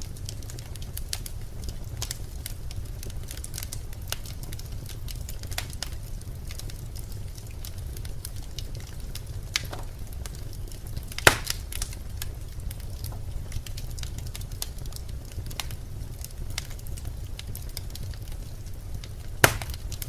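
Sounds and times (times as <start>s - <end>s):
fire crackling and popping: 0.0s - 20.0s
low rumble of fire: 0.0s - 20.0s.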